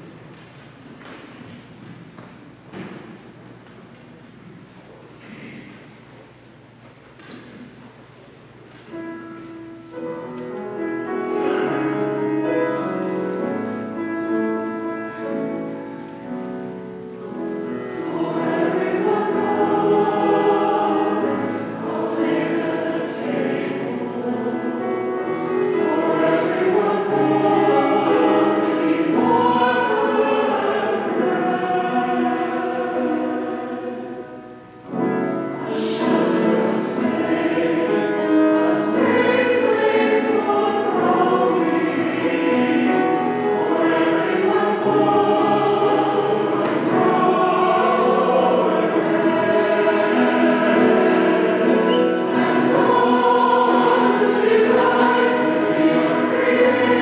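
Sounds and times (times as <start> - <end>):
church choir singing: 8.5 - 57.0.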